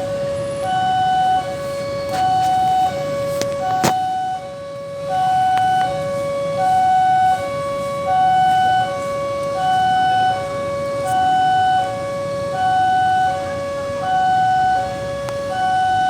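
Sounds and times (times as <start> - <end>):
level crossing alarm two-tone signal: 0.0 - 16.0.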